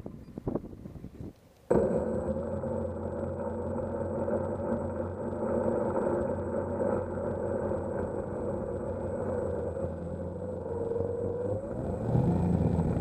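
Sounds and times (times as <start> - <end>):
drone motors and propellers spinning: 0.0 - 13.0
thin high whine: 0.1 - 13.0.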